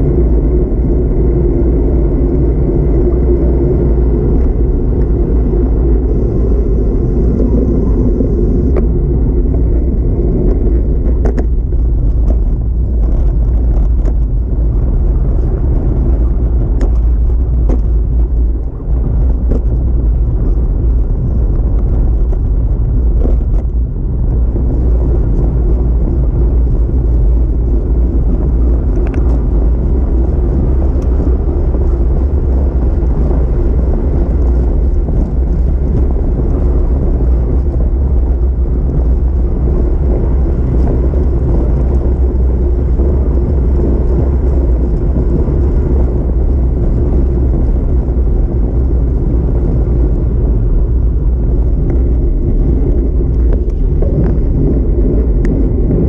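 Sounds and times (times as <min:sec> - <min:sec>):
bike road rumble: 0:00.0 - 0:56.0
wind buffeting microphone: 0:00.0 - 0:56.0.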